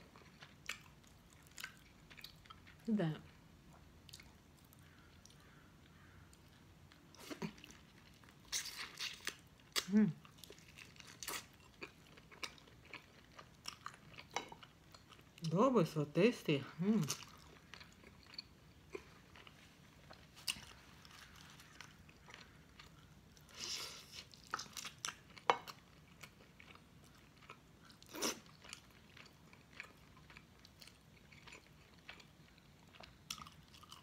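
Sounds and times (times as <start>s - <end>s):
person chewing food: 0.0s - 15.5s, 17.0s - 34.0s.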